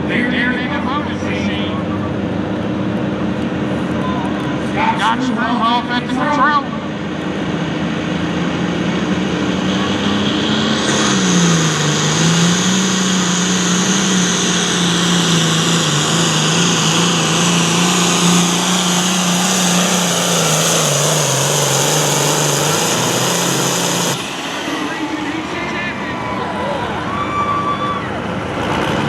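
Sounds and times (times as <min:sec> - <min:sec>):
diesel tractor engine under load: 0:00.0 - 0:29.0
high turbo whine: 0:00.0 - 0:29.0.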